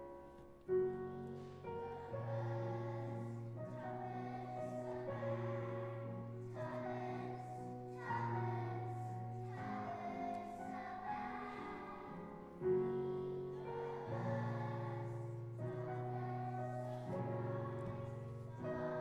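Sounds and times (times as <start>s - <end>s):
children's choir singing: 0.8s - 19.0s.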